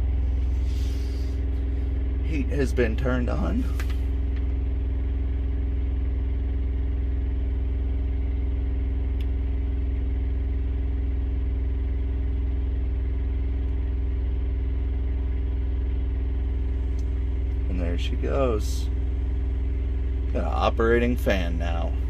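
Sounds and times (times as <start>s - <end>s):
engine idling drone: 0.0s - 22.0s.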